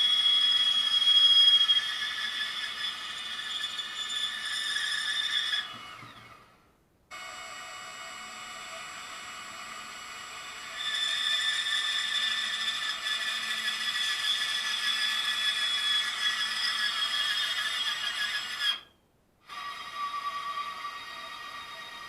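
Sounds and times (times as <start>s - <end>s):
band saw blade whining: 0.0s - 6.5s, 8.2s - 22.0s.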